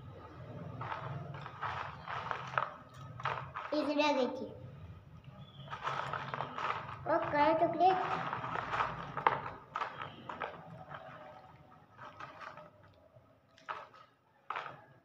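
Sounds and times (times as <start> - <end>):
small items clattering in plastic box: 0.0 - 4.0, 5.4 - 15.0.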